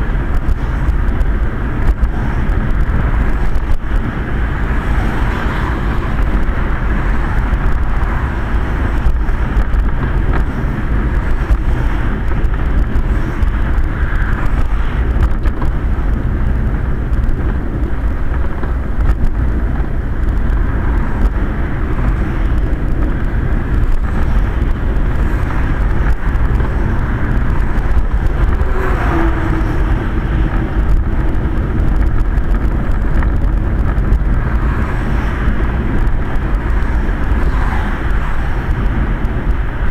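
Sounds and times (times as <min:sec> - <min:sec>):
rain: 0:00.0 - 0:39.9
tyre and road noise: 0:00.0 - 0:39.9
wind against the shell: 0:00.0 - 0:39.9.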